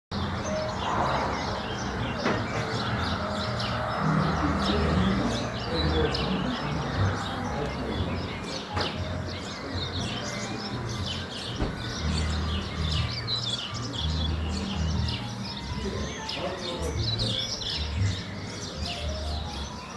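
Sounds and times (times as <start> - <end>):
low bass music: 0.1 - 19.9
small birds chirping: 0.1 - 19.9.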